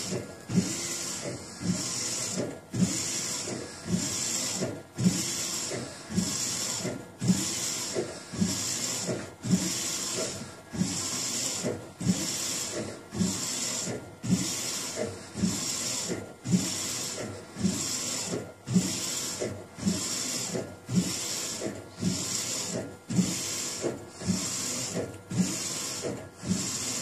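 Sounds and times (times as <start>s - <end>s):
printer knocking and whirring: 0.0s - 27.0s.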